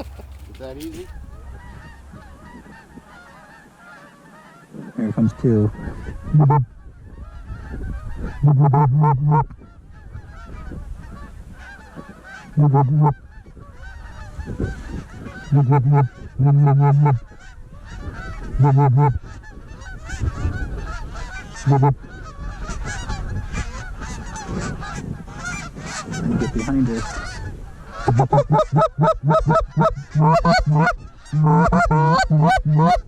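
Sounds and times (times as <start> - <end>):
geese honking: 0.0 - 33.0
goose call moaning honks: 0.0 - 33.0.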